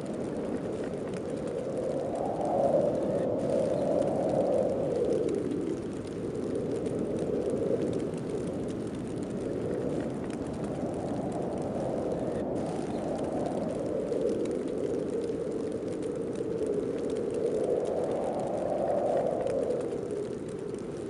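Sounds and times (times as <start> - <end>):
snowstorm wind blowing: 0.0 - 21.0.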